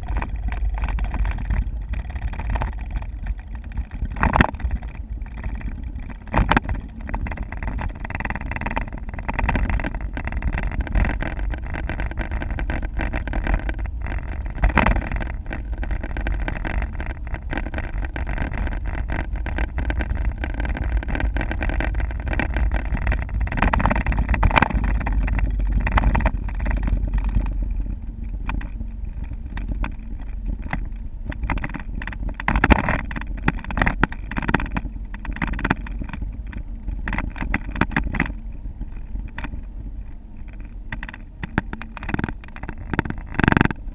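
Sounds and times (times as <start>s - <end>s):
car engine and tyre rumble: 0.0s - 43.9s.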